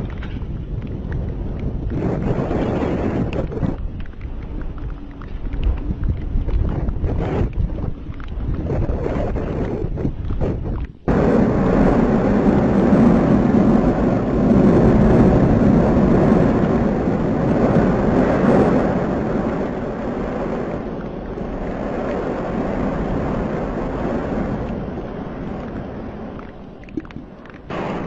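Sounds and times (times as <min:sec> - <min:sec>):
volcanic eruption roar: 0:00.0 - 0:28.0.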